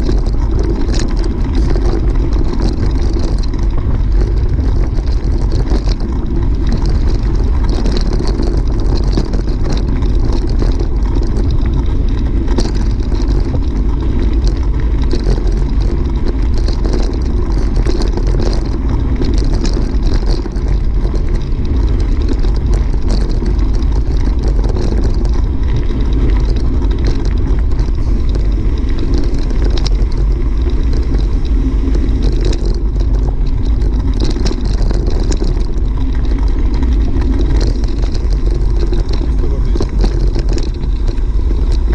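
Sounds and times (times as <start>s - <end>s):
bicycle tyres crunching over stones: 0.0s - 41.9s
wind buffeting microphone: 0.0s - 41.9s.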